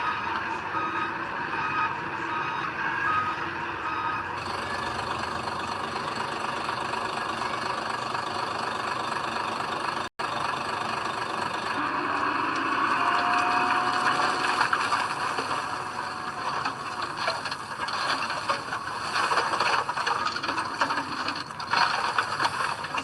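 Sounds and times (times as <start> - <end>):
truck reversing beeper: 0.0 - 22.0
heavy diesel machinery running: 0.0 - 23.0.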